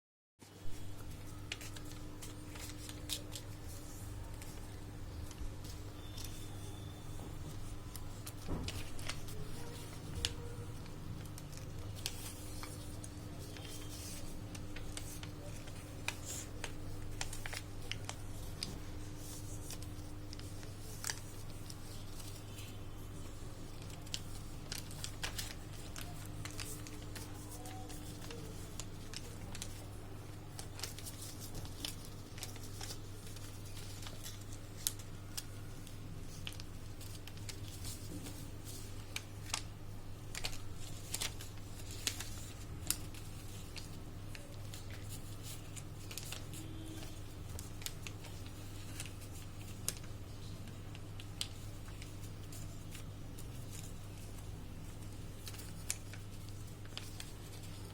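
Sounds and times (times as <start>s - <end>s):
paper crackling and tapping: 0.4s - 57.9s.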